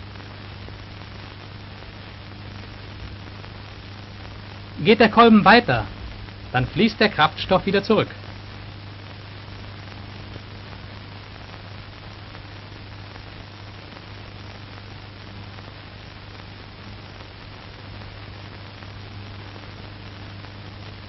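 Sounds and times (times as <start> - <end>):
constant low hum: 0.0 - 21.0
steady hiss: 0.0 - 21.0.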